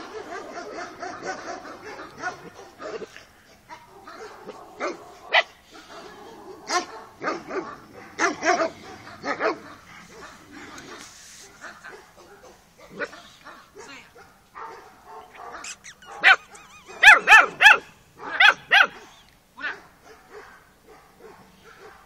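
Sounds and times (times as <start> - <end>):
puppies barking and yipping: 0.0 - 19.3.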